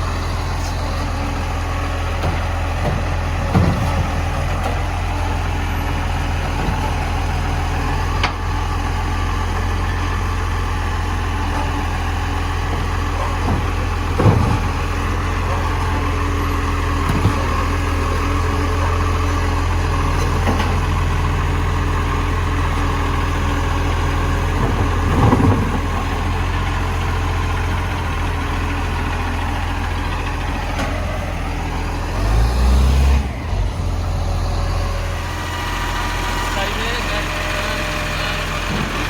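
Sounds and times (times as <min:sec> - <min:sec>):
garbage truck engine idling: 0:00.0 - 0:39.0.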